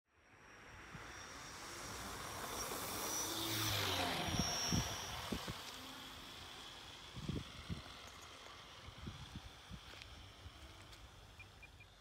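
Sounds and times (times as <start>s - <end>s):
model plane motor buzzing: 0.3s - 12.0s.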